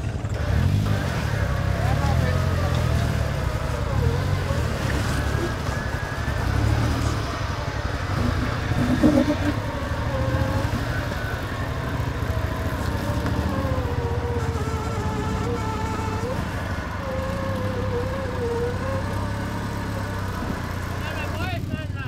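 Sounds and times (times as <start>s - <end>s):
off-road vehicle engine: 0.0s - 22.0s.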